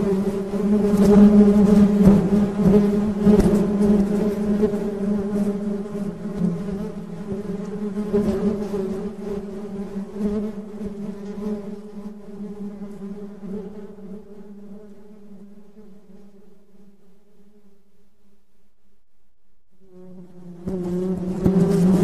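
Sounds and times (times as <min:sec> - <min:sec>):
bees buzzing: 0:00.0 - 0:16.7, 0:19.7 - 0:22.0.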